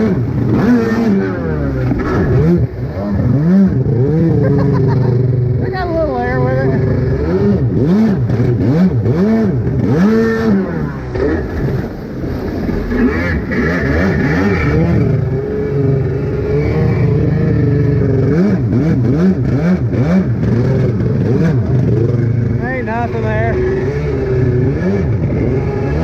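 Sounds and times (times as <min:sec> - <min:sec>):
jet ski engine revving: 0:00.0 - 0:26.0.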